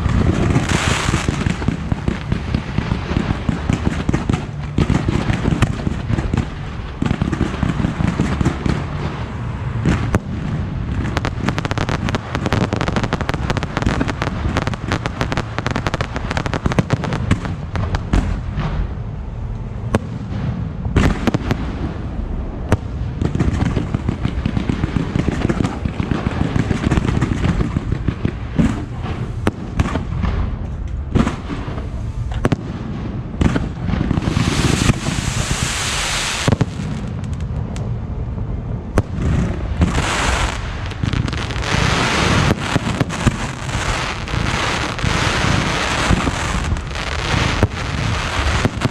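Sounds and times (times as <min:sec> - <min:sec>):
fireworks banging and crackling: 0:00.0 - 0:48.9
hissing crackle of fireworks: 0:00.0 - 0:48.9.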